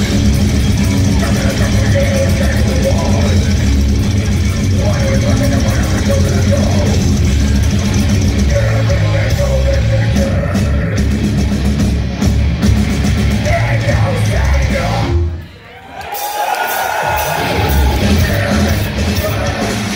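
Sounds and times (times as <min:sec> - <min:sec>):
distorted electric guitars: 0:00.0 - 0:15.6, 0:16.2 - 0:19.9
drums: 0:00.0 - 0:19.9.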